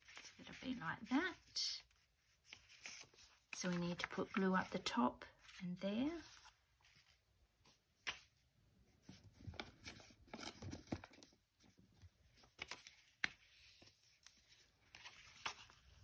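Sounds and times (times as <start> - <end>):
paper rustling: 0.0 - 8.4, 9.0 - 16.0.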